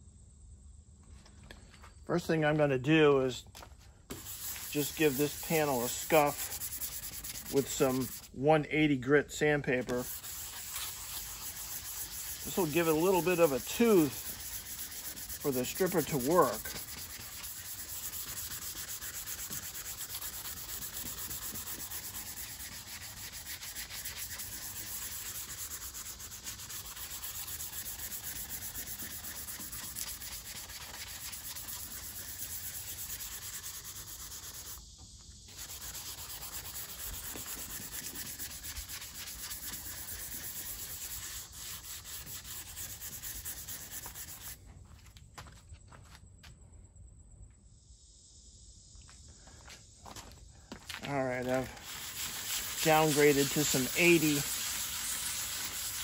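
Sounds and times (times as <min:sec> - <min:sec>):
hand sanding with sandpaper: 0:03.6 - 0:44.6, 0:51.1 - 0:56.0.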